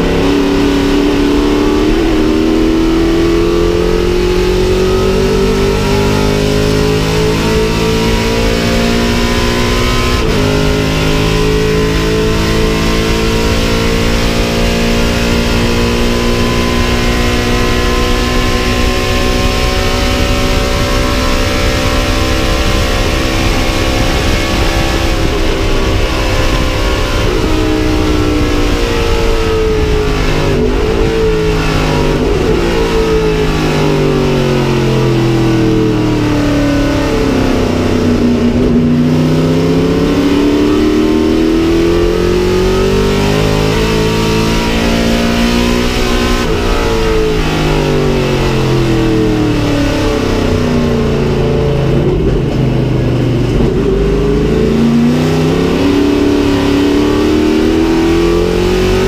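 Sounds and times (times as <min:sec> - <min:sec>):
racing car engine pulling hard: 0:00.0 - 0:59.0.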